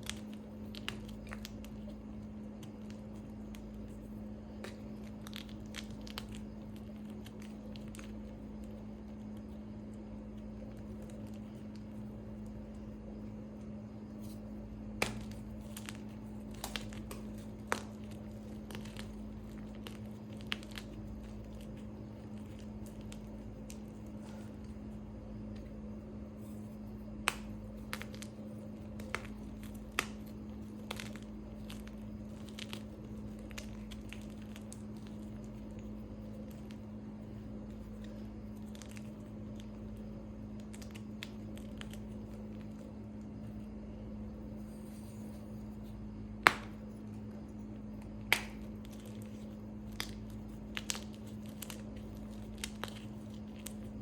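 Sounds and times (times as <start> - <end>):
chalk chunks being crushed: 0.0 - 54.0
steady low hum: 0.0 - 54.0.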